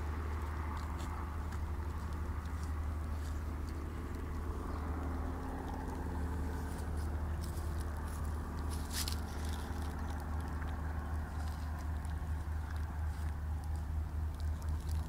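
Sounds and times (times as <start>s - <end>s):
ponies chewing food: 0.0s - 15.0s
steady low rumble: 0.0s - 15.0s.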